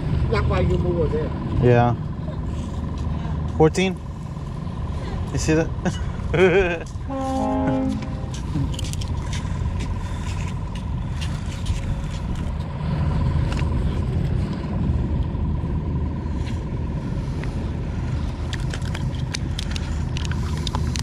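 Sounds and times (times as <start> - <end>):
low engine rumble: 0.0 - 21.0
thin steady whine: 0.0 - 21.0.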